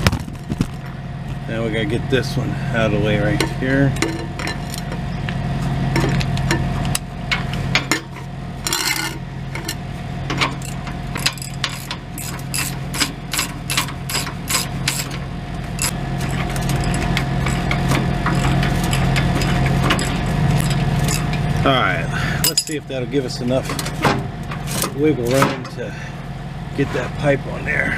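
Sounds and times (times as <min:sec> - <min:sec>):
low hum: 0:00.0 - 0:27.9.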